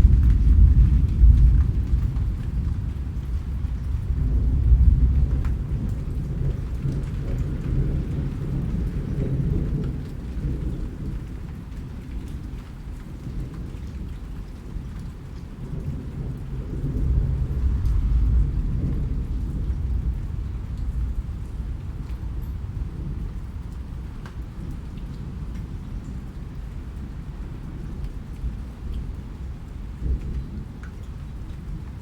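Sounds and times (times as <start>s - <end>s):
low rumble of thunder: 0.0s - 32.0s
rain falling: 0.0s - 32.0s.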